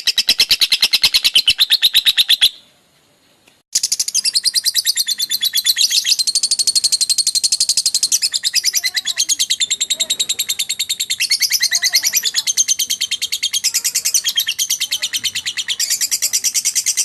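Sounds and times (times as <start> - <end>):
lovebird shrill chirping trill: 0.0 - 2.6, 3.7 - 17.0.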